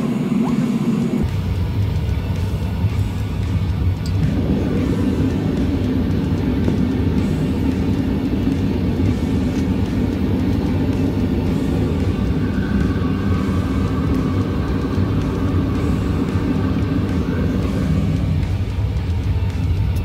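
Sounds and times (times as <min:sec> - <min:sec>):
gas burner roaring: 0:00.0 - 0:20.0.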